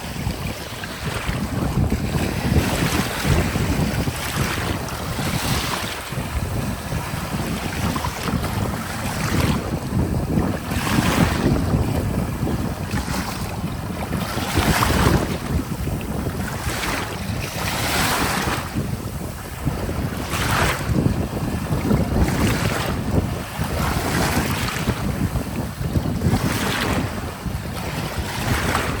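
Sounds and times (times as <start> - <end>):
small sea waves breaking: 0.0 - 29.0
wind buffeting microphone: 0.0 - 29.0.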